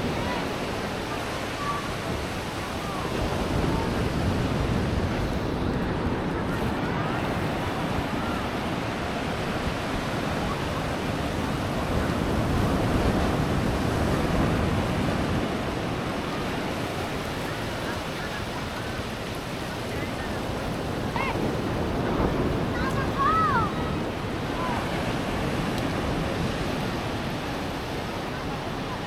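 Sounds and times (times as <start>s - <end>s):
ocean surf washing onto beach: 0.0s - 29.0s
wind rumbling on microphone: 0.0s - 29.0s.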